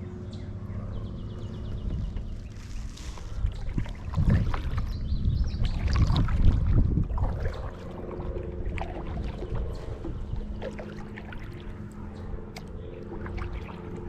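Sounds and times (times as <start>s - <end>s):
paddle splashing through water: 2.4s - 14.0s.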